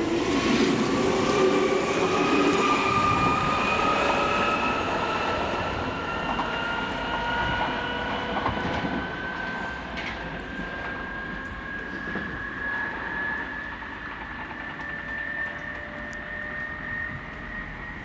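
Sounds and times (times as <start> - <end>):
electric train motor whine: 0.0 - 18.0.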